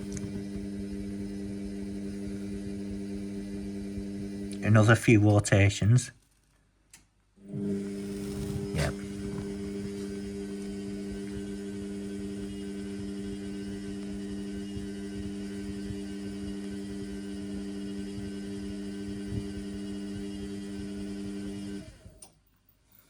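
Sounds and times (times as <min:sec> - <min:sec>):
washing machine motor humming: 0:00.0 - 0:05.2, 0:07.4 - 0:22.2.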